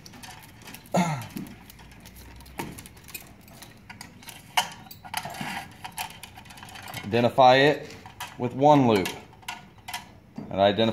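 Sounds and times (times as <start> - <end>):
cable clicking and rustling: 0.0 - 10.2.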